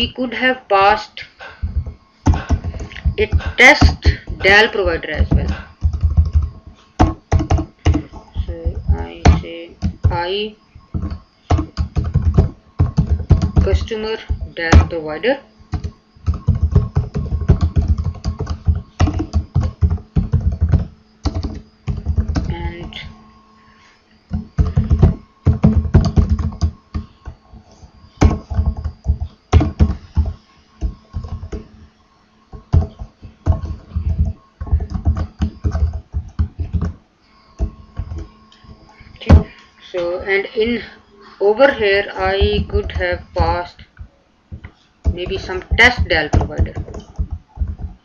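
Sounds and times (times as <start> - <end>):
computer keyboard typing: 1.6 - 15.0, 15.7 - 23.1, 24.3 - 27.4, 28.2 - 31.8, 32.5 - 37.0, 37.6 - 39.6, 41.6 - 43.7, 44.5 - 48.0.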